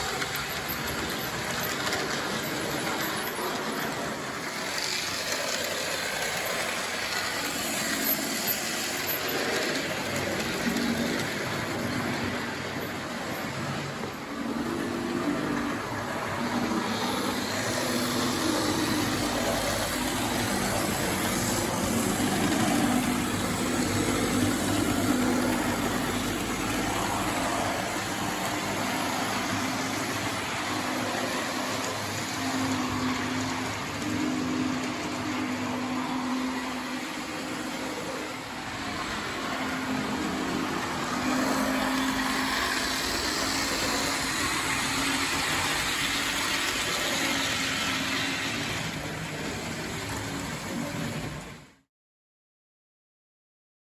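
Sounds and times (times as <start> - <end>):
model locomotive running: 0.0 - 51.7.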